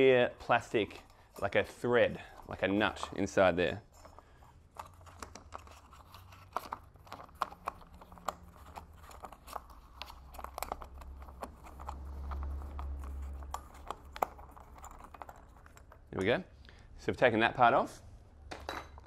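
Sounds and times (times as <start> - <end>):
lamp parts clicking and scraping: 0.7 - 16.3.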